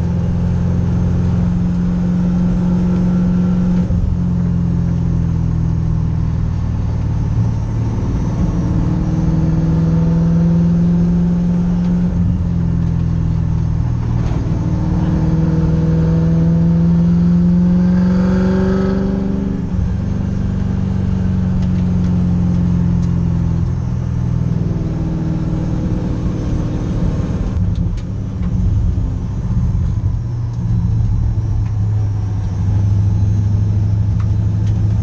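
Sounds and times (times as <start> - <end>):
race car engine from inside: 0.0 - 35.0.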